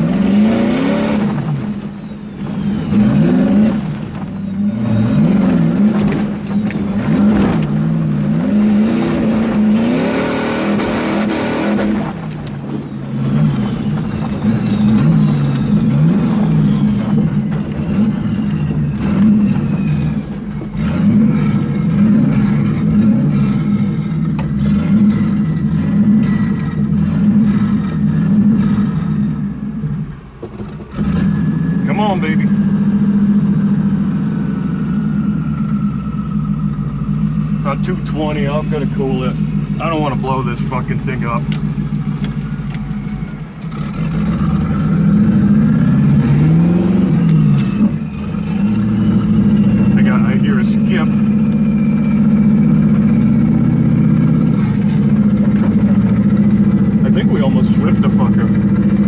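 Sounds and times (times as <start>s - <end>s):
truck engine running hard: 0.0s - 59.0s.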